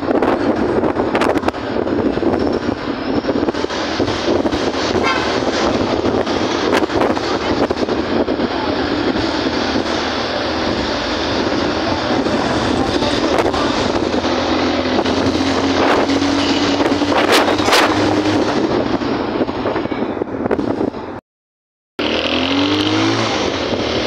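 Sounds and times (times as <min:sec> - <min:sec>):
vehicle engine running: 0:00.0 - 0:21.2, 0:22.0 - 0:24.0
wind buffeting microphone: 0:00.0 - 0:21.2.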